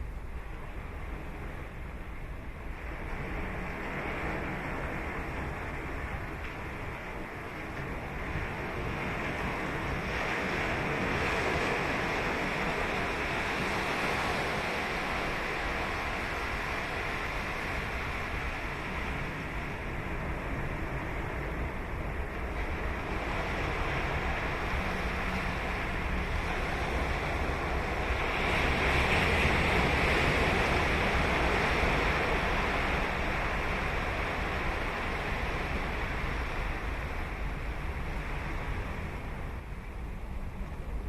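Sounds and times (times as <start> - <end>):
wind on microphone: 0.0 - 41.0
ocean waves breaking on beach: 2.6 - 41.0.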